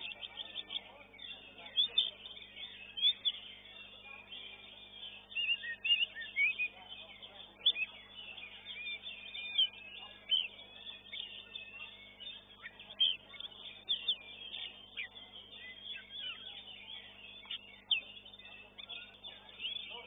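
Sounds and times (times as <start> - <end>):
birds whistling and chirping: 0.0 - 20.0.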